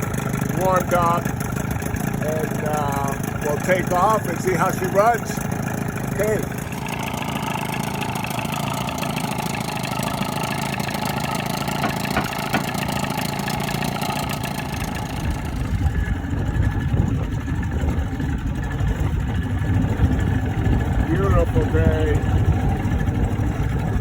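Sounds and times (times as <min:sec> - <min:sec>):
two-stroke outboard motor running: 0:00.0 - 0:24.0.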